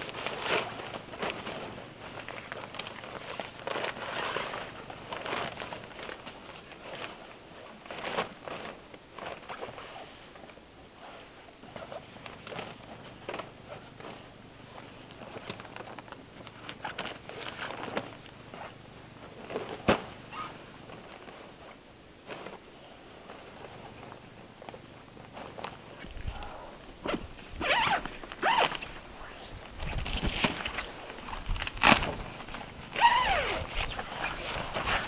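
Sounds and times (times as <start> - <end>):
canvas tent fabric rustling: 0.0 - 35.0.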